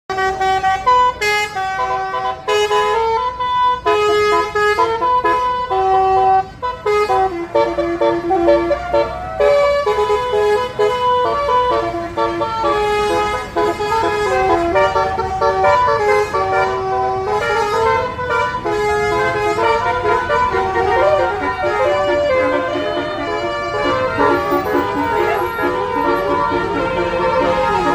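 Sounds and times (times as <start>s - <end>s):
bus musical horn melody: 0.1s - 27.9s.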